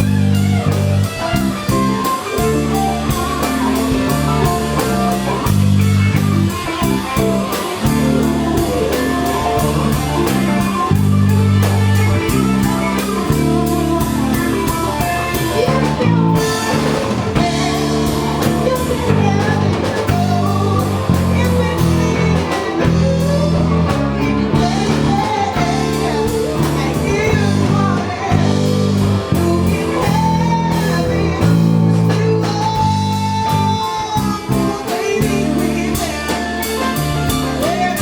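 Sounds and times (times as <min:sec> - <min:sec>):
bass guitar: 0:00.0 - 0:38.0
drum kit beat: 0:00.0 - 0:38.0
electric guitar: 0:00.0 - 0:38.0.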